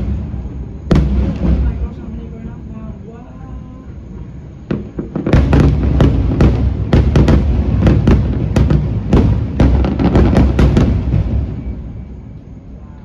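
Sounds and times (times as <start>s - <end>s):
low booming: 0.0s - 2.9s, 4.1s - 12.4s
fireworks bangs: 0.0s - 12.8s.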